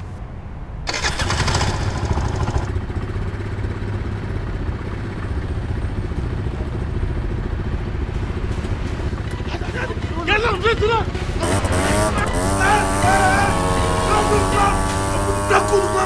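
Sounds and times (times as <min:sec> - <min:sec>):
scooter engine rattling and idling: 0:00.9 - 0:16.0.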